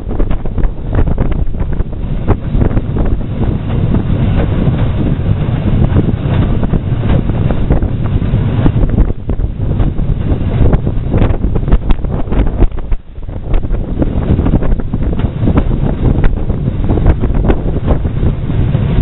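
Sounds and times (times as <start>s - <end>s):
steam train rumbling: 0.0s - 19.0s
train knocks and clatter: 0.0s - 19.0s
wind buffeting microphone: 0.0s - 19.0s.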